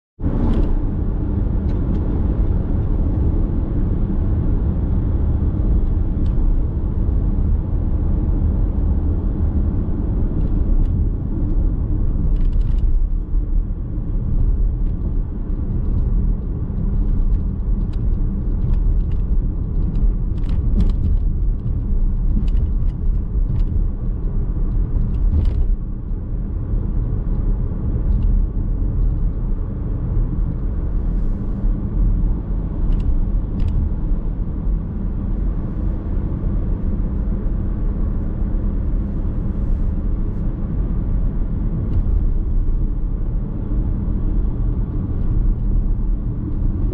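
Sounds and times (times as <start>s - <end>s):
car tyre and engine rumble: 0.2s - 46.9s.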